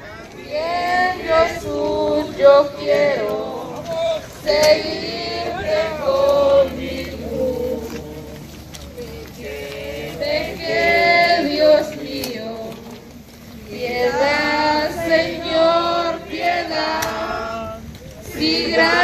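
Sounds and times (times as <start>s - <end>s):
people singing a hymn: 0.0s - 19.0s.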